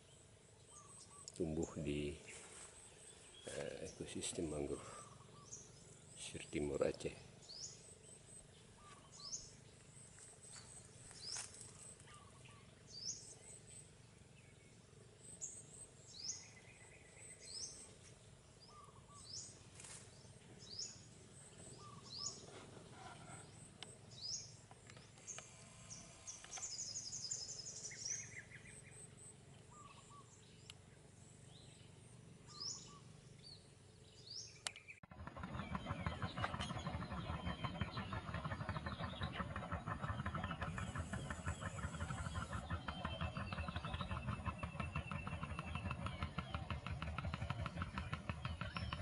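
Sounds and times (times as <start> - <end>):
birds calling: 0.0 - 49.0
low rattling bird calls: 0.0 - 49.0.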